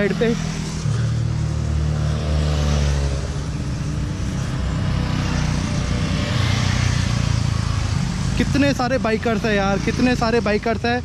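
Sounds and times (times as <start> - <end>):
motorcycles passing: 0.0 - 11.0.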